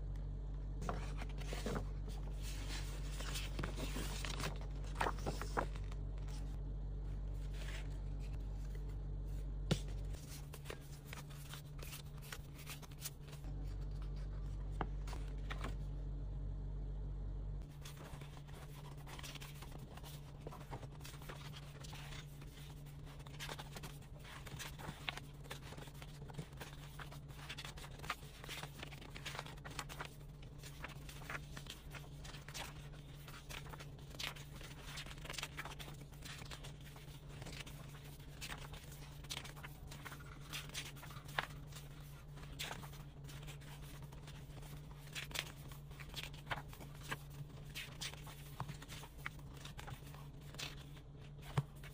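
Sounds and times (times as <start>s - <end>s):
steady low hum: 0.0s - 51.9s
photobook pages rustling: 0.8s - 6.6s, 7.2s - 15.9s, 17.7s - 51.9s.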